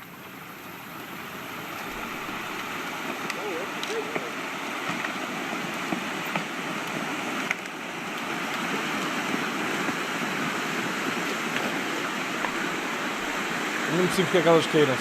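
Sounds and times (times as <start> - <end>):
rushing water-like noise: 0.0 - 15.0.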